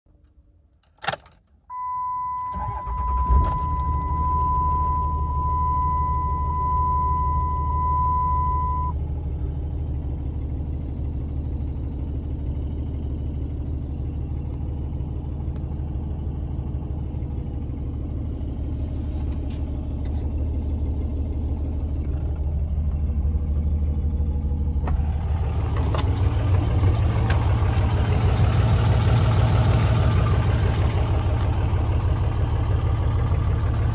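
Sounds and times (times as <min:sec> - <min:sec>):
diesel engine starting and idling: 0:01.0 - 0:33.9.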